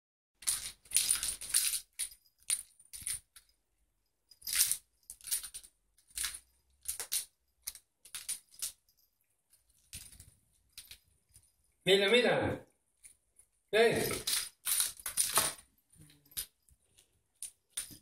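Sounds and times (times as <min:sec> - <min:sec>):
small bell jingling: 0:00.4 - 0:03.6, 0:04.2 - 0:11.9, 0:13.8 - 0:18.0.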